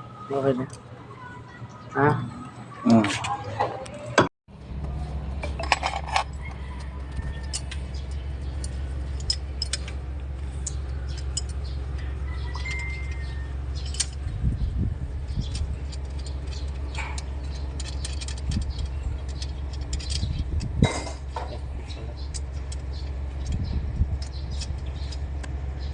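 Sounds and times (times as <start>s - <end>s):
diesel engine idling: 4.5s - 25.9s.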